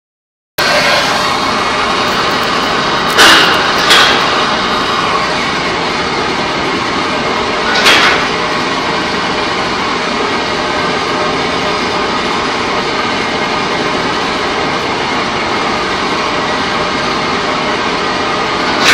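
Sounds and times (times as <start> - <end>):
industrial machinery din: 0.6 - 18.9.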